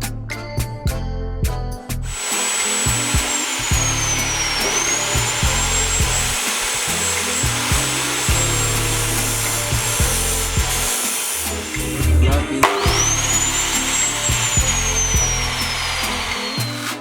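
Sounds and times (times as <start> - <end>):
cut-off saw motor whine: 2.0 - 17.0
grinding hiss: 2.0 - 17.0.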